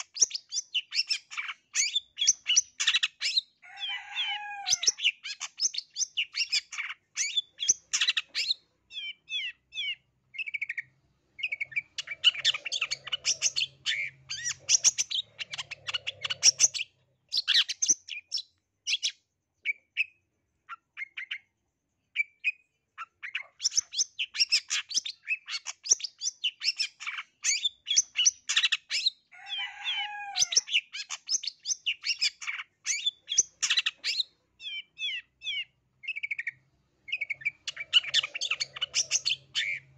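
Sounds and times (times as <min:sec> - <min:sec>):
shrike singing chirps and trills: 0:00.0 - 0:21.5, 0:22.1 - 0:39.9.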